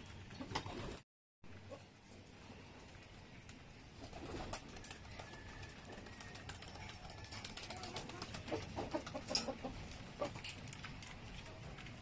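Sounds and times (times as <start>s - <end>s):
pigeons pecking grain: 1.7s - 12.0s.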